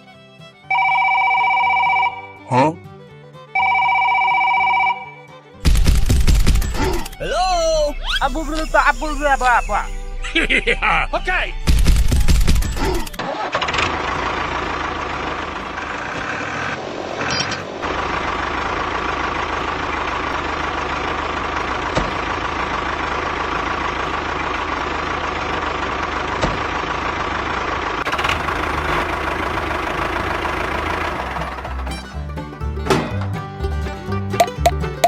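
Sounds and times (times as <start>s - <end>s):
truck engine running: 3.0s - 35.0s.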